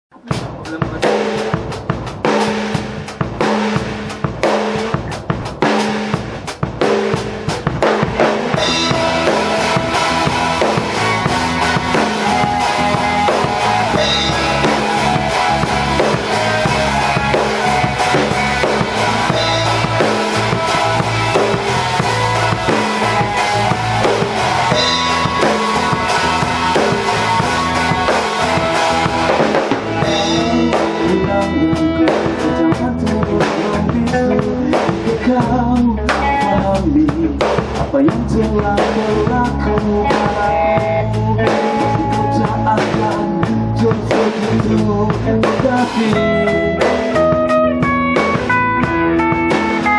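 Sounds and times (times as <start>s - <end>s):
drum kit: 0.1s - 49.9s
electric bass: 0.1s - 49.9s
electric guitars: 0.3s - 49.9s.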